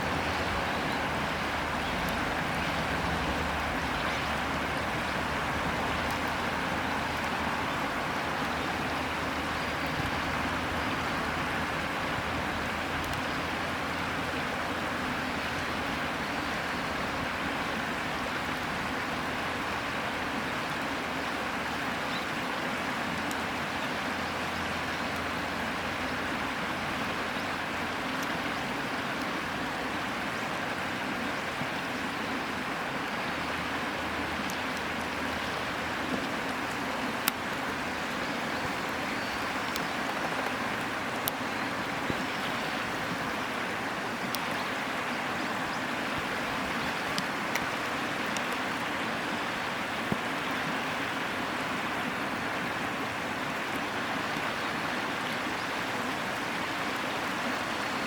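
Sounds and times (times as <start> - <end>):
campfire crackles: 0.0 - 58.0
river water flowing: 0.0 - 58.0.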